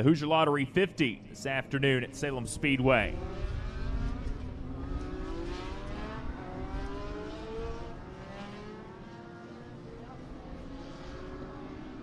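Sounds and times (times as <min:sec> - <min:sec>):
racing car engines: 0:00.0 - 0:12.0.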